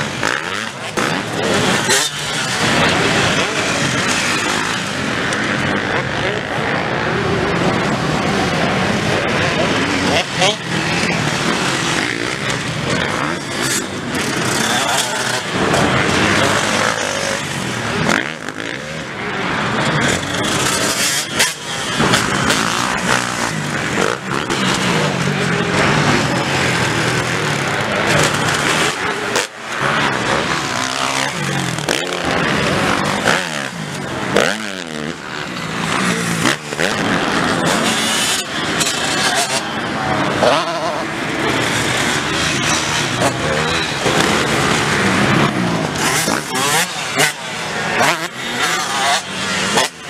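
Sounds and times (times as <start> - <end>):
motocross bikes revving past: 0.0 - 50.0.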